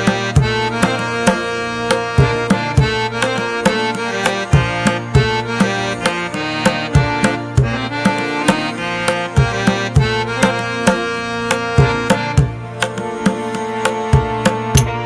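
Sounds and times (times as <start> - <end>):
held reedy melody: 0.0 - 15.0.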